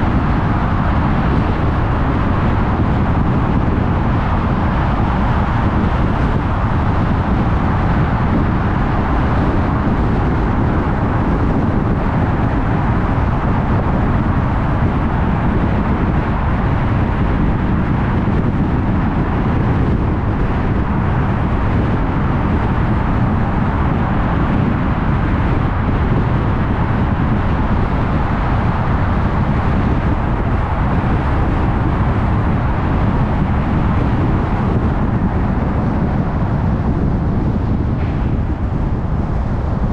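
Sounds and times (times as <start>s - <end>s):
car engine hum: 0.0s - 39.9s
tyre and wind noise: 0.0s - 39.9s.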